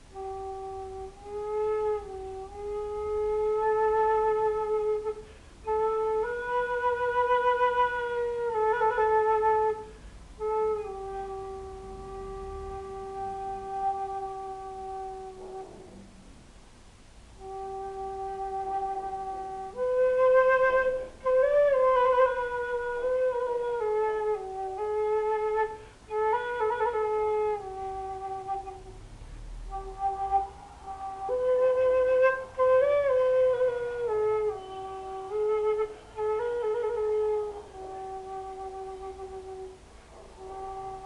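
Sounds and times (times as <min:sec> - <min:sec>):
end-blown flute melody: 0:00.0 - 0:16.2, 0:17.4 - 0:41.0.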